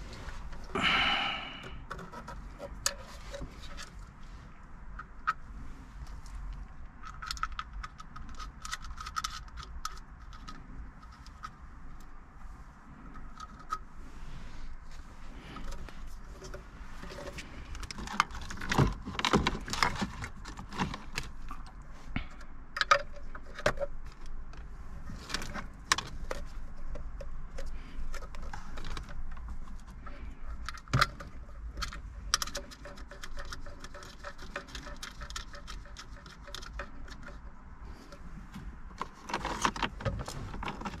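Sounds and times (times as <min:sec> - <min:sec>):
wire rustle and rattling: 0:00.0 - 0:41.0.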